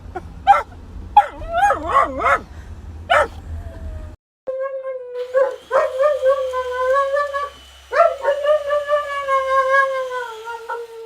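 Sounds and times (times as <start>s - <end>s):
dog howling: 1.2s - 2.4s, 3.1s - 11.0s.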